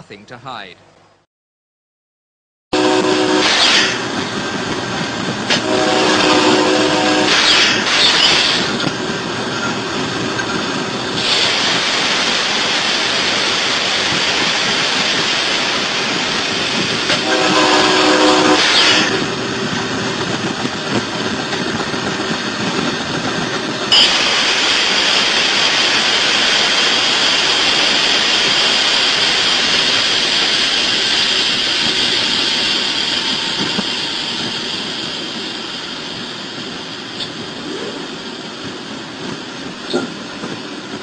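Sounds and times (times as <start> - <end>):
train wheel and rail noise: 2.8 - 41.0.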